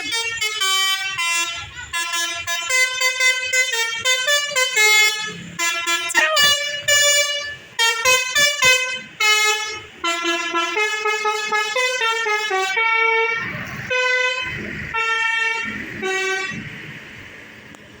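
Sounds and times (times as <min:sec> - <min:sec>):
multi-tone horn playing a tune: 0:00.0 - 0:16.6.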